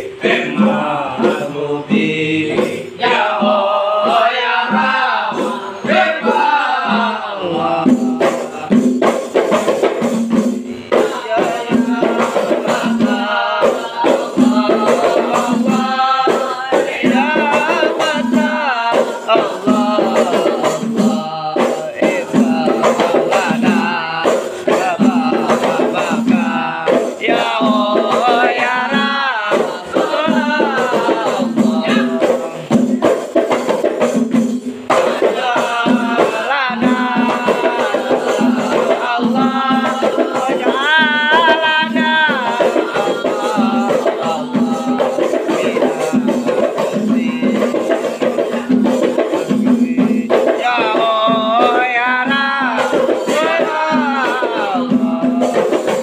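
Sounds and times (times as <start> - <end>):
men chanting in unison: 0.0 - 56.0.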